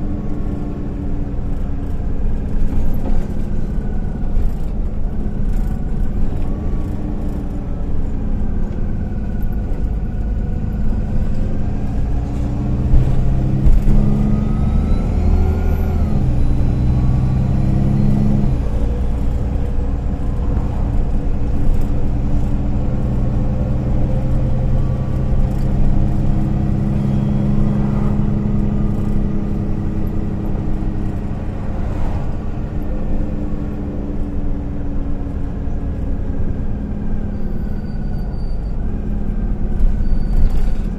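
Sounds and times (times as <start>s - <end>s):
bus engine pulling: 0.0s - 40.9s.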